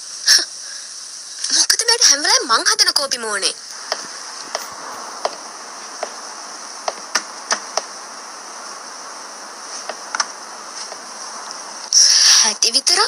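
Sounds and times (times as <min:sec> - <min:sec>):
high-pitched outdoor hiss: 0:00.0 - 0:13.0.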